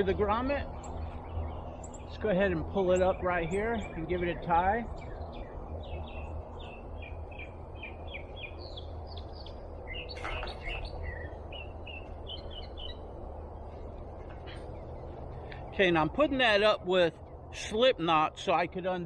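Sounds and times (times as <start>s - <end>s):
low background rumble: 0.0s - 17.6s
birds chirping: 0.0s - 19.0s.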